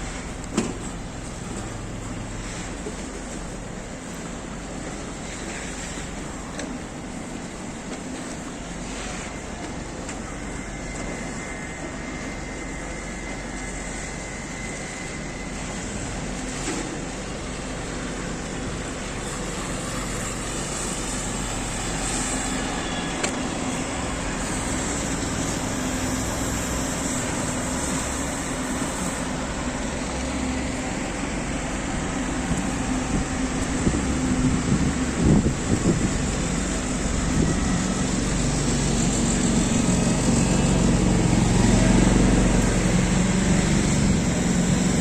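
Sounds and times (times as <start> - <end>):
city street traffic: 0.0 - 45.0.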